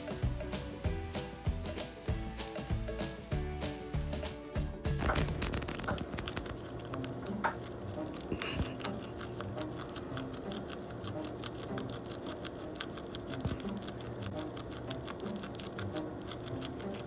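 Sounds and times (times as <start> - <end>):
guinea pig chewing: 0.0 - 17.0.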